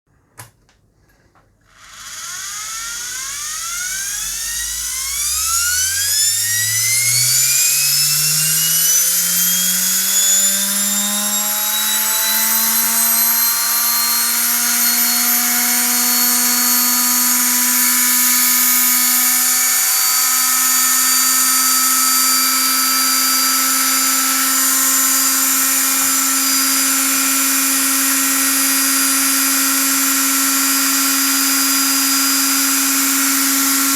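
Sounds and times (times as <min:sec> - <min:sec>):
electric motor whine: 0:01.7 - 0:33.9.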